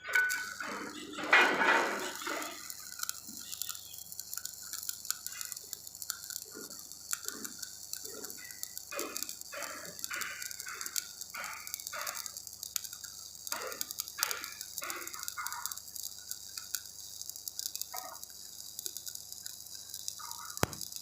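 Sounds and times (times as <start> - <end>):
arc welding crackling: 0.0 - 21.0.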